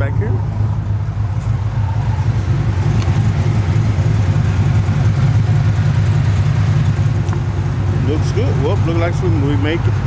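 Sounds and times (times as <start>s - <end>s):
pickup truck engine idling: 0.0s - 10.0s.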